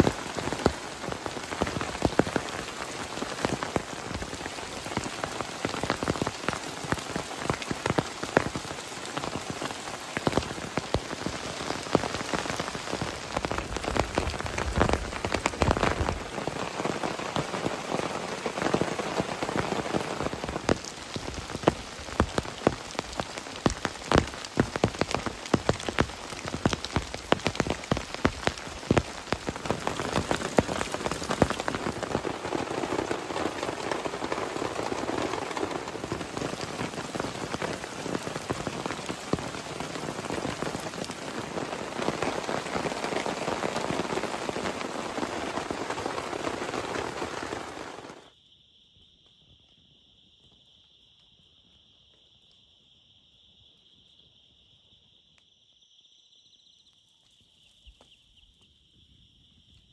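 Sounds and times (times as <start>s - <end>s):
heavy rain falling: 0.0s - 48.3s
raindrops hitting a surface: 0.0s - 48.3s.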